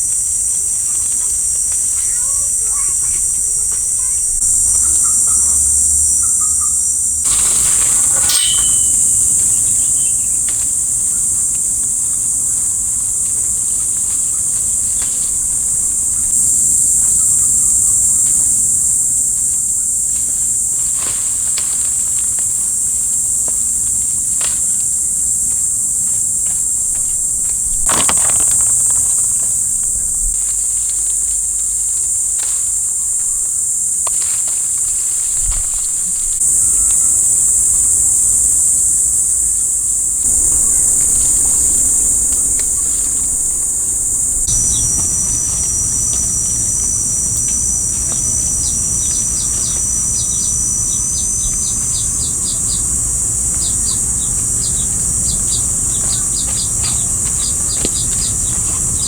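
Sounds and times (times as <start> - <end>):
insects shrilling: 0.0 - 59.0.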